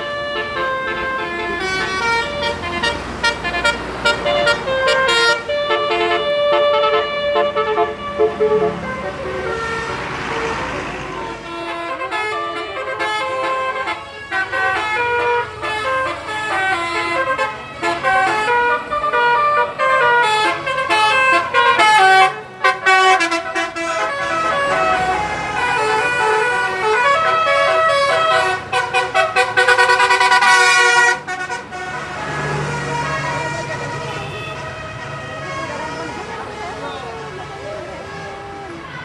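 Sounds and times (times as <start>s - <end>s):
multi-tone bus air horns: 0.0s - 39.0s.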